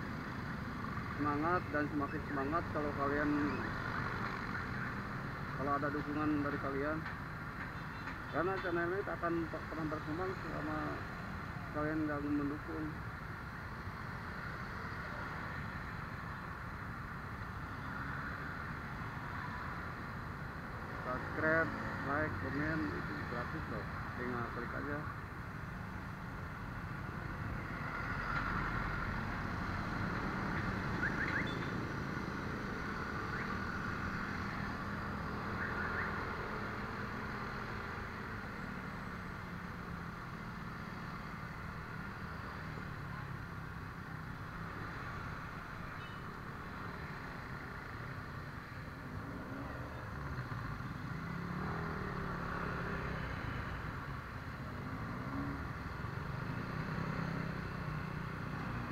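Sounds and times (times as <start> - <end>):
motorcycles and cars passing: 0.0 - 58.9
motor scooter engine and road noise: 9.3 - 58.9.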